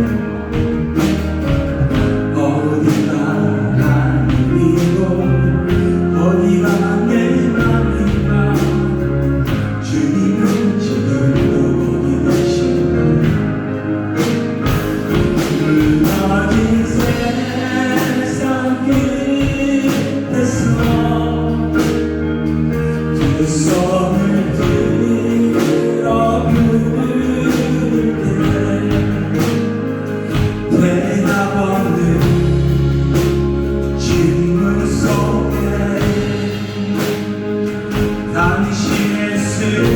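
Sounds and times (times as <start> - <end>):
worship band playing: 0.0 - 39.9
people singing: 2.0 - 13.6, 15.1 - 33.4, 34.0 - 39.9.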